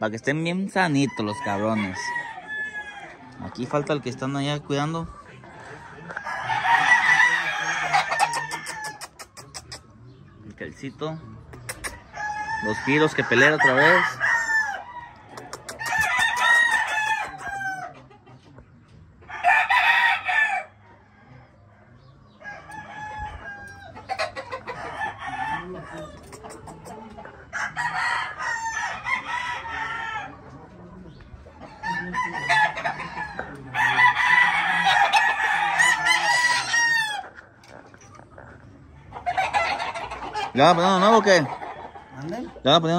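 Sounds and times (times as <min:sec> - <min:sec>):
roosters crowing: 0:00.2 - 0:09.7, 0:11.6 - 0:18.2, 0:19.2 - 0:42.9.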